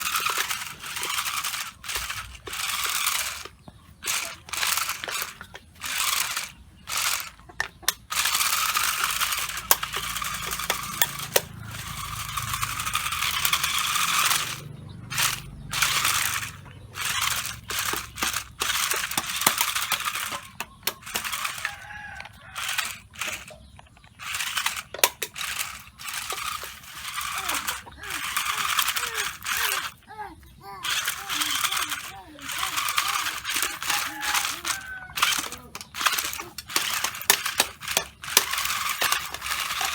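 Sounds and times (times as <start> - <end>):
sharp clicks: 0.0 - 39.9
toy car tyres scrubbing: 0.0 - 39.9.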